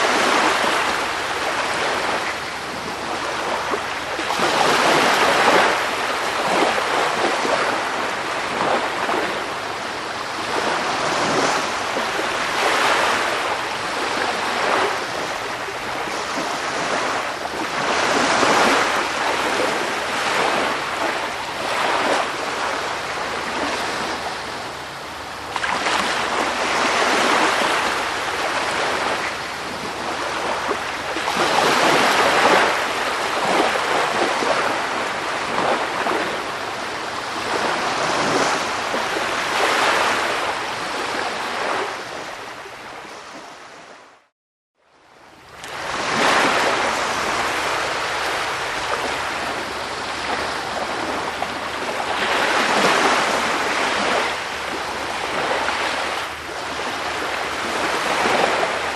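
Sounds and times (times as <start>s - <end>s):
waves washing in: 0.0s - 44.3s, 45.3s - 58.9s.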